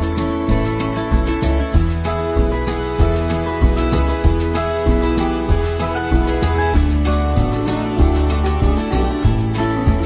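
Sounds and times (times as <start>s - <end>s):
guitar music with bass and beat: 0.0s - 10.0s.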